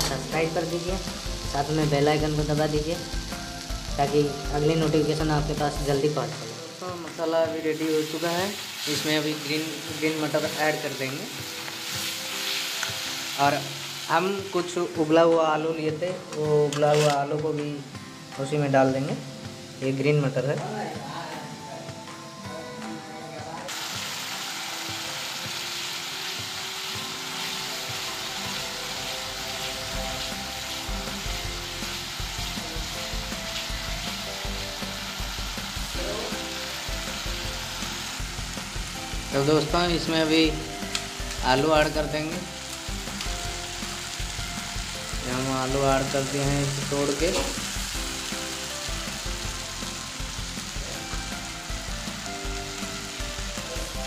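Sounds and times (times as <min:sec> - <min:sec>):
paste sizzling in a pan: 0:00.0 - 0:22.6, 0:23.6 - 0:54.0.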